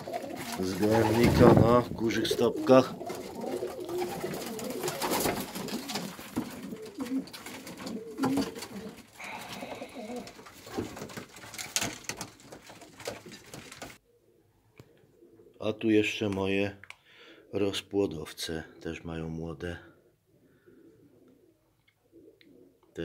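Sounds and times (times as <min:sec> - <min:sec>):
pigeons cooing: 0:00.0 - 0:15.6, 0:20.0 - 0:23.0.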